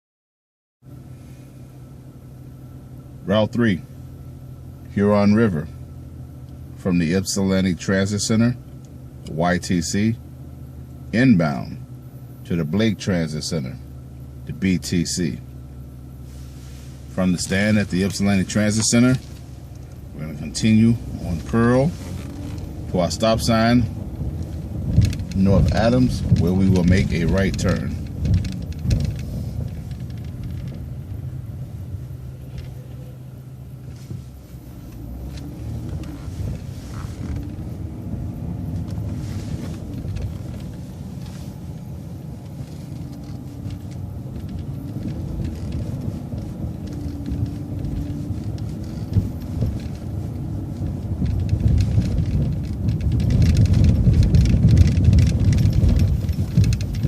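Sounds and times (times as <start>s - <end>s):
bus engine: 0.8s - 57.0s
road rumble: 0.8s - 57.0s
steady low hum: 0.8s - 57.0s.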